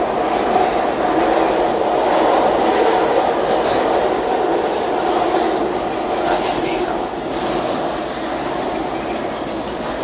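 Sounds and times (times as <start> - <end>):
subway car wheels rumbling: 0.0 - 10.0.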